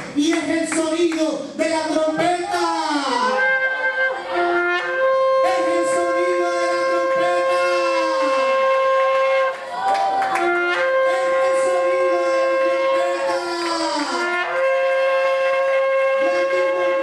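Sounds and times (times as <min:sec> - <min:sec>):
shofar blasts: 0:02.4 - 0:17.0.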